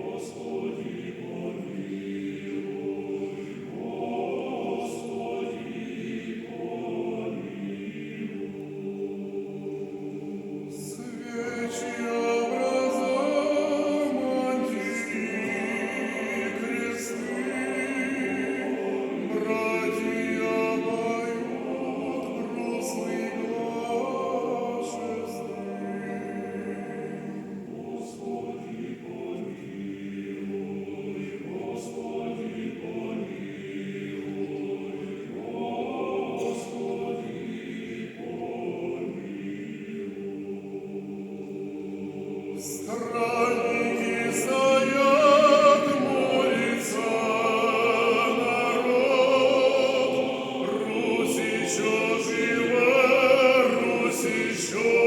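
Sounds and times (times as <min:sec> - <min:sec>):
male choir singing: 0:00.0 - 0:55.0.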